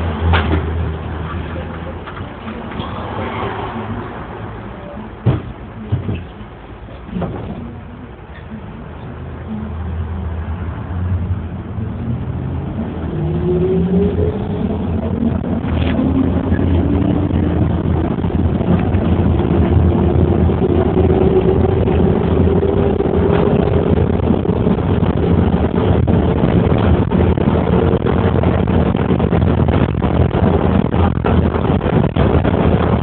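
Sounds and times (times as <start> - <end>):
road rumble: 0.0 - 33.0
vehicle engine hum: 0.0 - 33.0.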